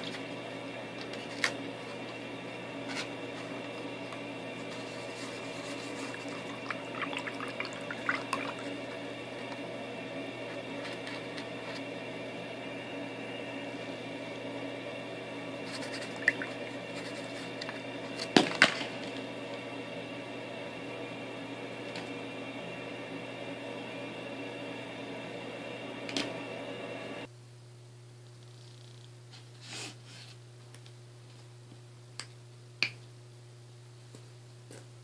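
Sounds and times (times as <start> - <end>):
background hum: 0.0 - 35.0.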